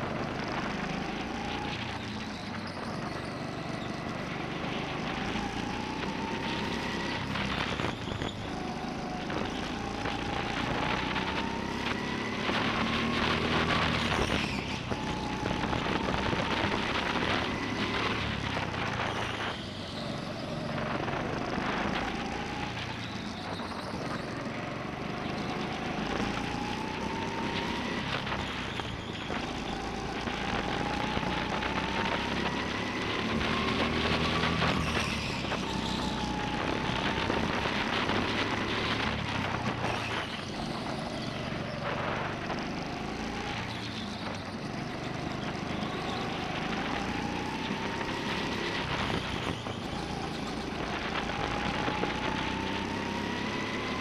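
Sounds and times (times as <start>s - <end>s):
go-kart motor whining: 0.0s - 54.0s
wind and tyre noise: 0.0s - 54.0s.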